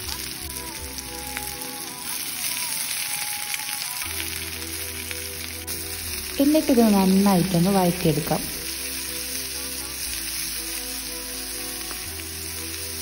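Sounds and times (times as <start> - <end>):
background music: 0.0 - 13.0
onions sizzling in oil: 0.0 - 13.0.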